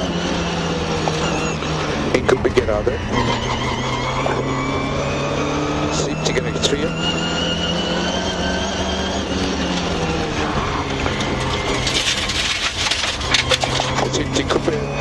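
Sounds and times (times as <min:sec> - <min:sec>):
car engine slowing: 0:00.0 - 0:15.0.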